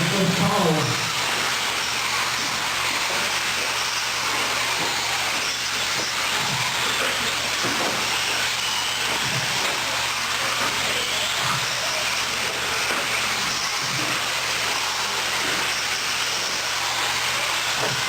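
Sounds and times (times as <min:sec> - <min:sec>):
high whine of electric motors: 0:00.0 - 0:18.0.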